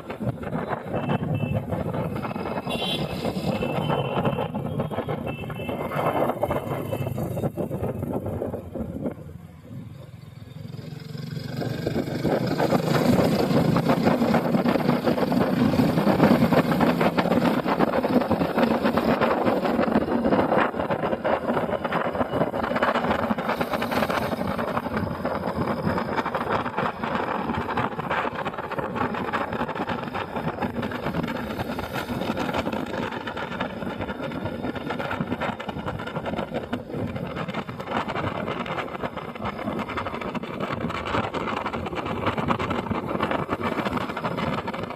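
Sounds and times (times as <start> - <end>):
motorcycle engine running: 0.0 - 44.9
road and wind noise: 0.0 - 44.9.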